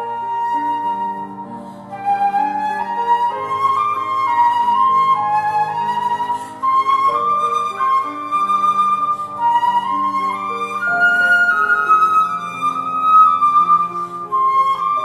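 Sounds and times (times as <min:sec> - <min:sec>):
flute melody: 0:00.0 - 0:15.0
piano accompaniment: 0:00.0 - 0:15.0.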